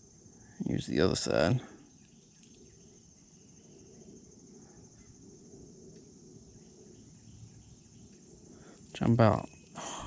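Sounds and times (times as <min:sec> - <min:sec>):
insects buzzing: 0:00.0 - 0:10.0.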